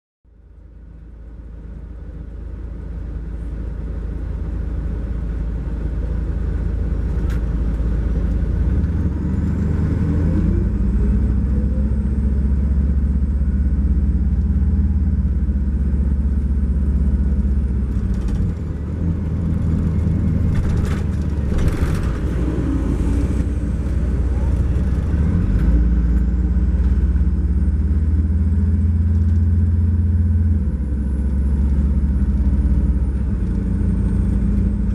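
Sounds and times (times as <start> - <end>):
diesel engine drone: 0.3 - 34.9.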